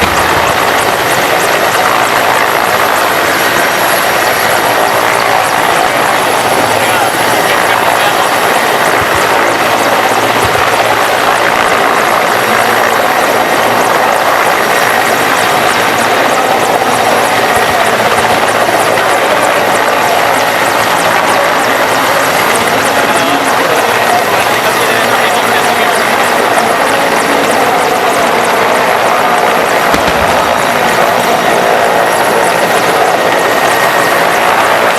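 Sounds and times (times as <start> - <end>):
helicopter engines and rotor: 0.0 - 34.9.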